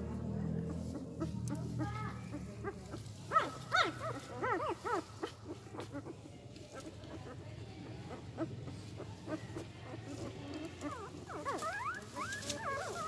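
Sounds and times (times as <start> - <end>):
puppies whining: 0.9 - 13.0.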